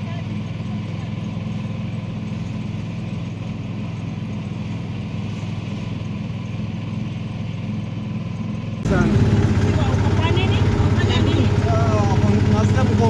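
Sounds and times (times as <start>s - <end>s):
auto-rickshaw engine running: 0.0s - 13.0s.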